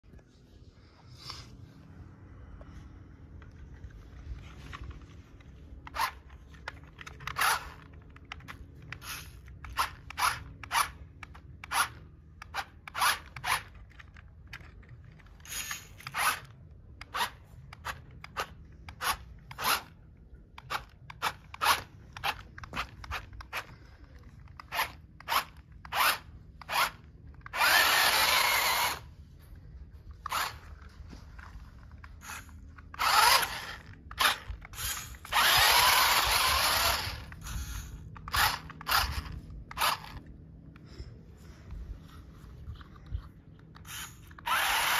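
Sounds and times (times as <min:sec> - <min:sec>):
toy electric motor whirring: 0:03.4 - 0:29.2, 0:29.8 - 0:40.9, 0:41.6 - 0:44.9.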